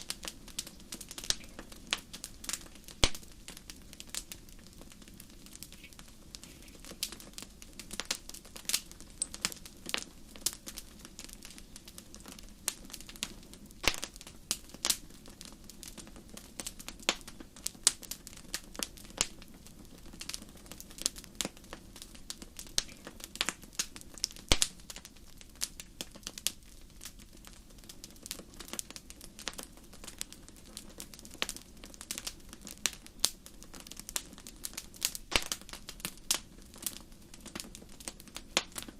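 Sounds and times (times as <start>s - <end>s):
low rush of flames: 0.0s - 38.9s
wood fire crackling and popping: 0.0s - 38.9s.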